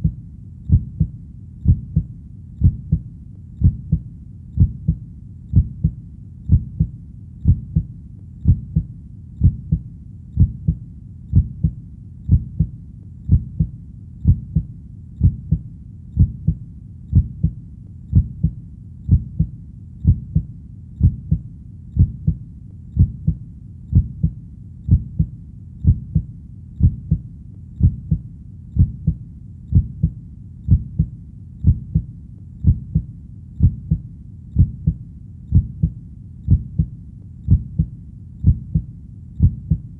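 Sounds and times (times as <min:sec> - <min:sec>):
faint low hum: 0:00.0 - 0:39.9
heartbeat thumping: 0:00.0 - 0:39.9.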